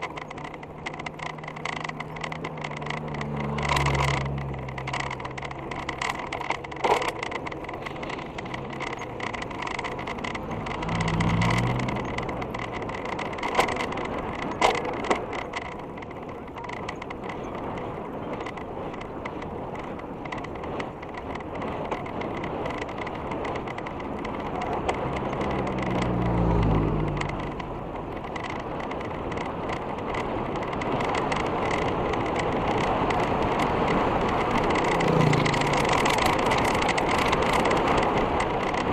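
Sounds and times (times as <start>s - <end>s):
motor vehicle passing: 0.0s - 14.5s, 22.2s - 38.9s
bike rattles and clicks: 0.0s - 38.9s
bike tyre and wind noise: 0.0s - 38.9s.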